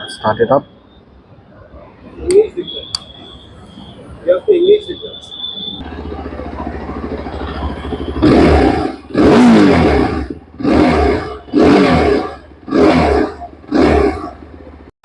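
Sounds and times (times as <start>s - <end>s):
motorcycle engine idling and revving: 1.8s - 15.0s.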